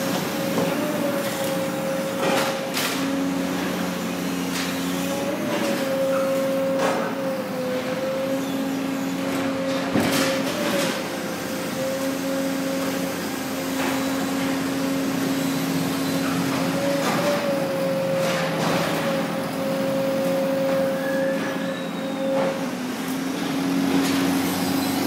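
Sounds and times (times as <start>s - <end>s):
machinery humming drone: 0.0s - 25.0s.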